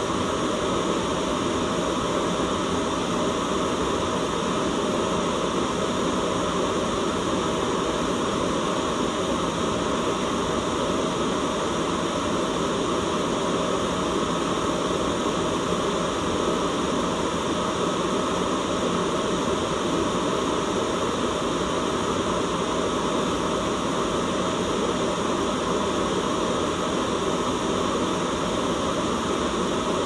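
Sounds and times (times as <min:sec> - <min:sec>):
white noise hiss: 0:00.0 - 0:30.0.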